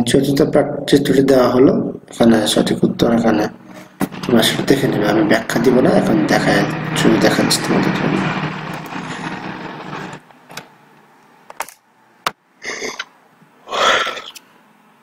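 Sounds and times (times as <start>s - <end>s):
steady hiss with low hum: 0.0s - 15.0s.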